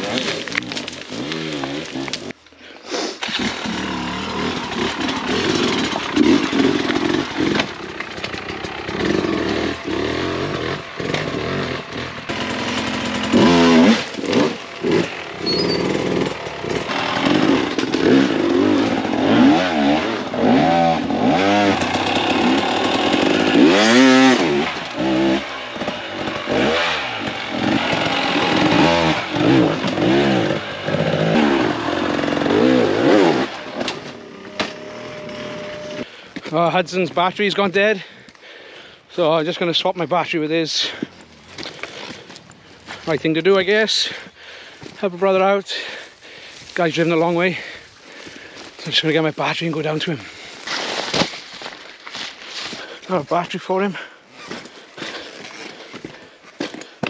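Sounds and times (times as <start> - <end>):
dirt bike engines revving: 0.0 - 2.4, 3.2 - 38.3, 39.0 - 51.0.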